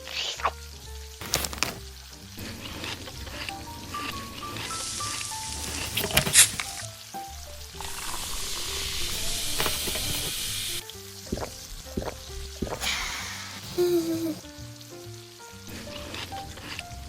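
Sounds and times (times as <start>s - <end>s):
light background music: 0.0s - 17.0s
meat sizzling on a grill: 0.0s - 17.0s.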